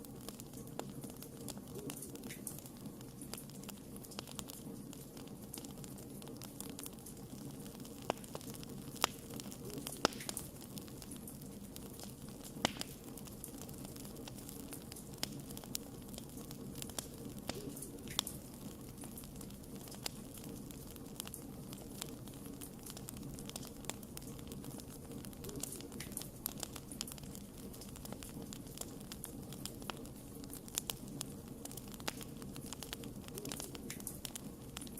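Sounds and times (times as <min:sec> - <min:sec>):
campfire hissing: 0:00.0 - 0:34.9
fire crackling and popping: 0:00.0 - 0:34.9.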